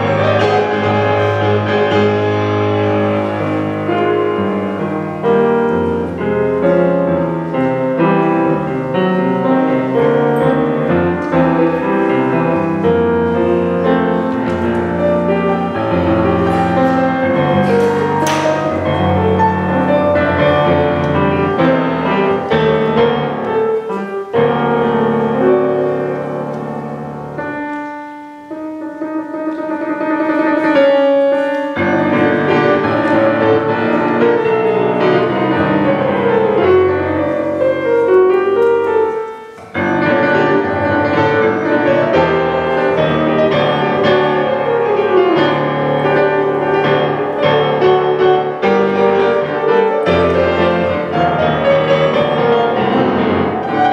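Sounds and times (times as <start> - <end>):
solo piano waltz: 0.0 - 53.9.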